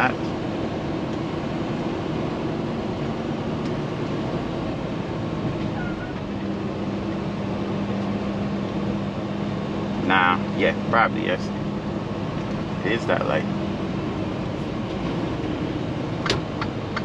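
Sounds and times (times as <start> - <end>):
steady low hum: 0.0 - 17.0
truck engine and road noise: 0.0 - 17.0.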